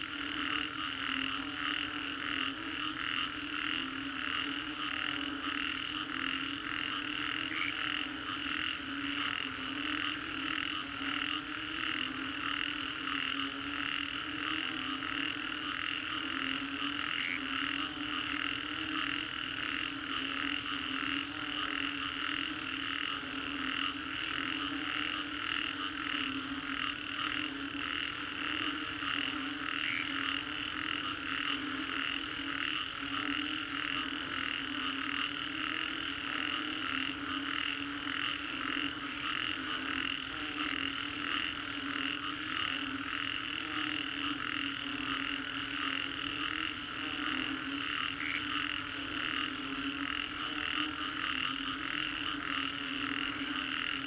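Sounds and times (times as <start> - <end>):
frogs pulsing high calls: 0.0 - 54.0
low droning frog chorus: 0.0 - 54.0.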